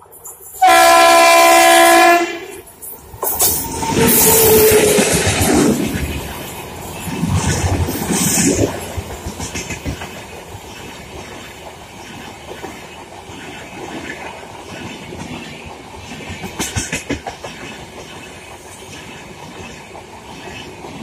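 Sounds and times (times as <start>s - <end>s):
train wheels clickety-clack: 2.4s - 21.0s.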